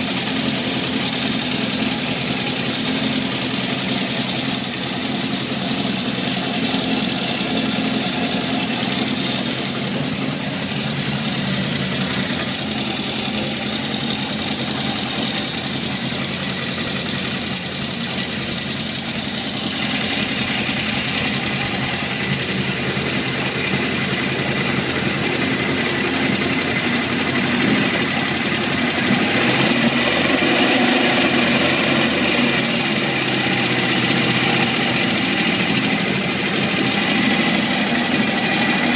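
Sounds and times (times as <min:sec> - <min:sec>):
motorcycle engine idling with rattle: 0:00.0 - 0:38.9.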